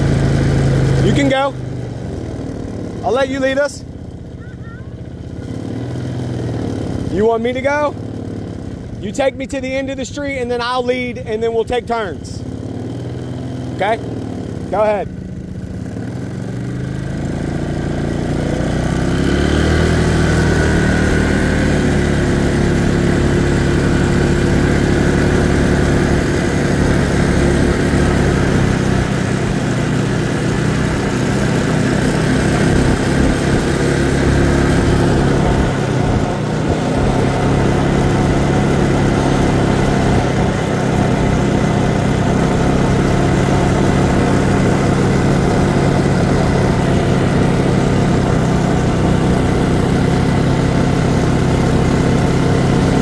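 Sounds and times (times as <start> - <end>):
small atv engine running: 0.0 - 53.0.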